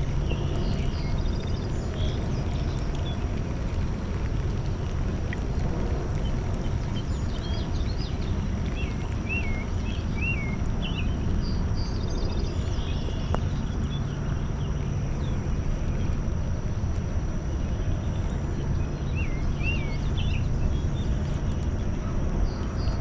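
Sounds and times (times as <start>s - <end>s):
low outdoor noise: 0.0s - 23.0s.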